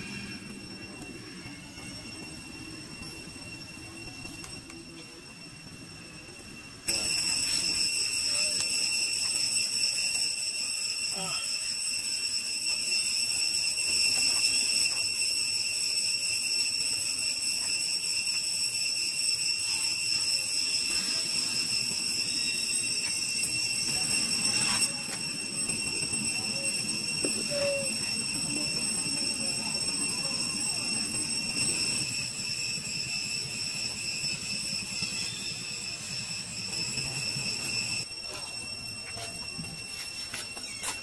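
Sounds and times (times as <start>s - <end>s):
cicadas droning: 0.0s - 41.0s.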